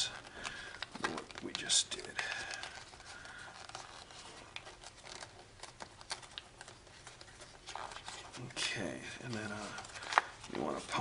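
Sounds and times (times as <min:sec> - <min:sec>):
foil paper crinkling: 0:00.0 - 0:11.0.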